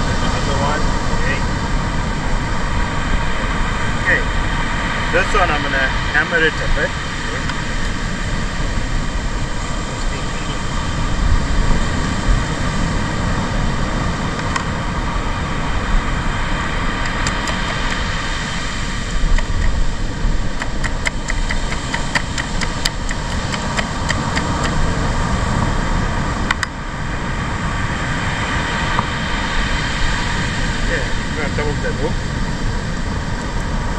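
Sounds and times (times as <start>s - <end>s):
beach surf rushing: 0.0s - 33.9s
wind noise on microphone: 0.0s - 33.9s.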